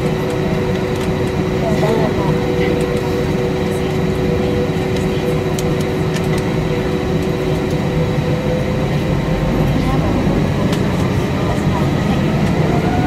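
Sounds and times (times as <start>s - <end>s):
airplane cabin rumble: 0.0s - 13.0s
steady humming tones: 0.0s - 13.0s.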